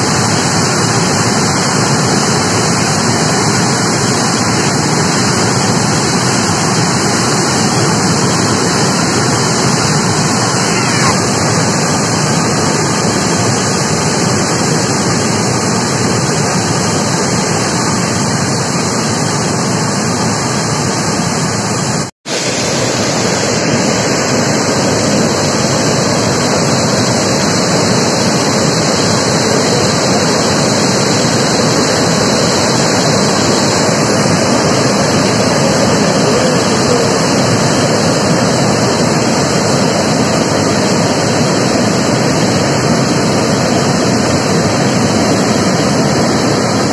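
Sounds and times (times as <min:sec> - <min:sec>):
river rushing over weir: 0:00.0 - 0:46.9.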